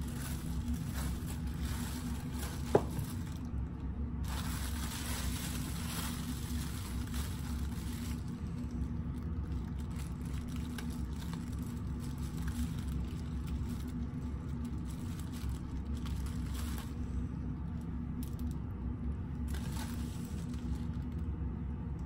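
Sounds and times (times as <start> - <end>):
plastic wrap crinkling: 0.0 - 18.6, 19.3 - 21.2
steady low hum: 0.0 - 22.0.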